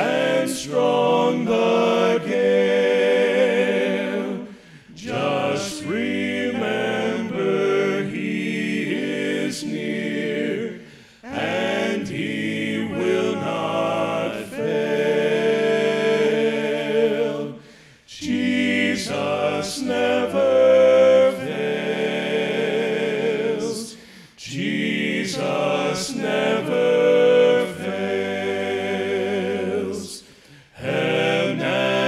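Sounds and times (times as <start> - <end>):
male quartet singing a cappella hymn: 0.0 - 32.0.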